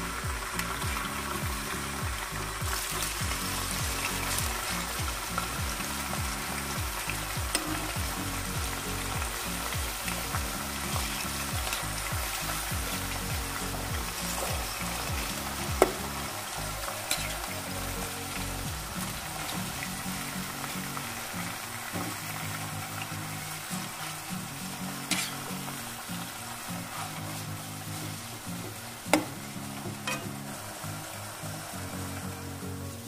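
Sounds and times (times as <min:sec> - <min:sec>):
chicken sizzling in a pan: 0:00.0 - 0:33.0.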